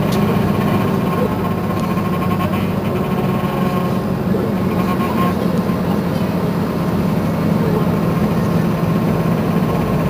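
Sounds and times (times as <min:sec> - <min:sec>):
bus engine idling: 0:00.0 - 0:10.0.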